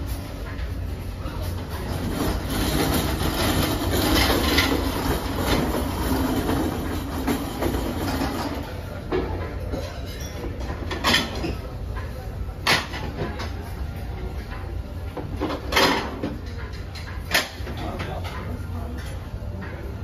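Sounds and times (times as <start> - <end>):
dishes clinking and clattering: 0.0 - 20.0
low room rumble: 0.0 - 20.0.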